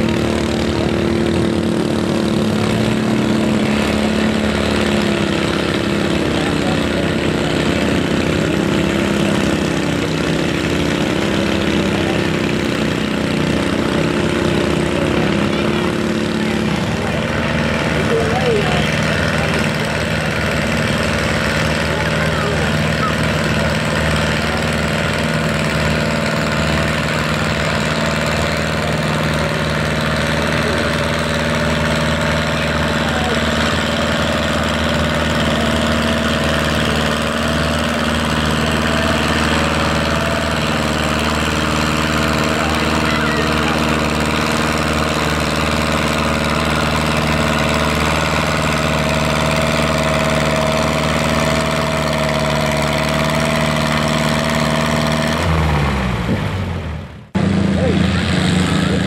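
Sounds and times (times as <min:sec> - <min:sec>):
tractor engine under heavy load: 0:00.0 - 0:59.0.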